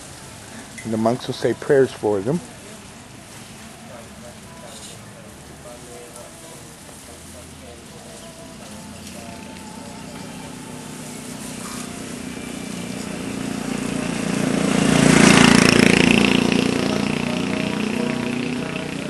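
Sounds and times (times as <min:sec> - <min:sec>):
motor vehicle passing by: 0:00.0 - 0:19.0.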